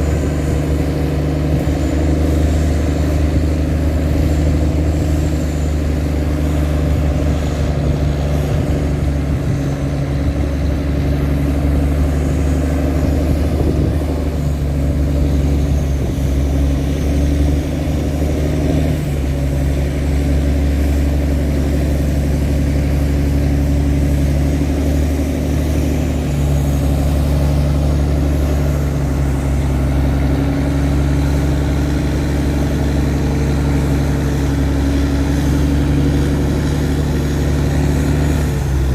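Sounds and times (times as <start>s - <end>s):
tugboat engine droning: 0.0s - 38.9s.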